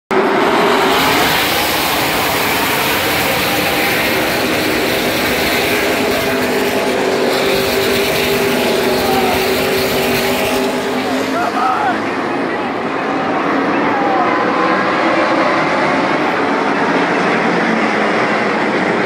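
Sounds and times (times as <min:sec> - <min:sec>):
race truck engines roaring: 0:00.1 - 0:19.0.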